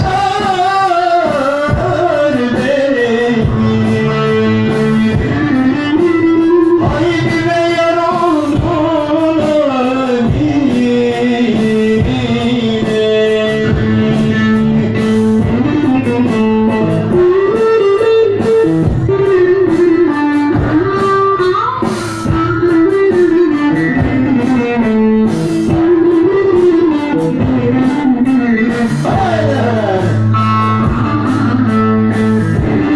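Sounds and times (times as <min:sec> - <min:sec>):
drum strikes: 0:00.0 - 0:32.9
plucked string melody: 0:00.0 - 0:32.9.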